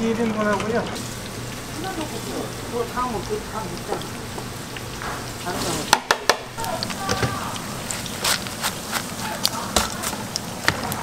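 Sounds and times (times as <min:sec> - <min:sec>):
battered food deep-frying in oil: 0:00.0 - 0:11.0.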